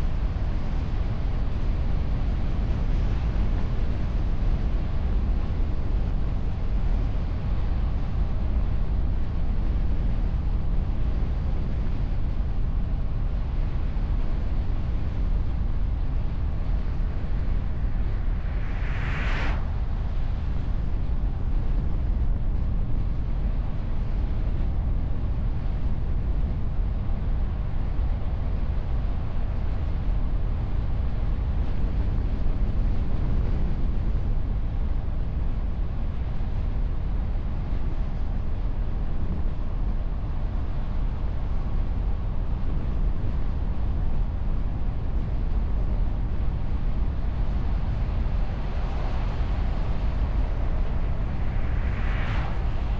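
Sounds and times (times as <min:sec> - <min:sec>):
wind and road rumble: 0:00.0 - 0:52.9.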